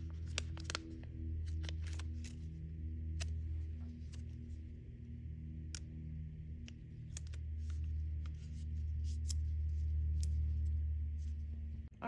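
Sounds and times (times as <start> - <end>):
gloved hands rustling: 0.0 - 11.9
soft background music: 0.0 - 12.0.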